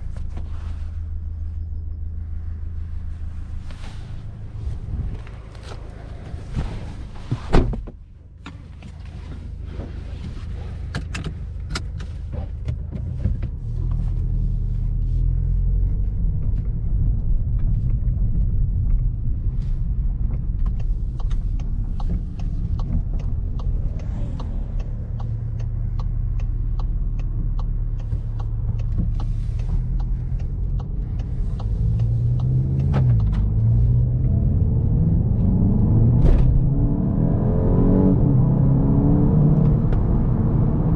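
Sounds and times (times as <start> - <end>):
car engine running: 0.0 - 36.8
road noise: 0.0 - 40.9.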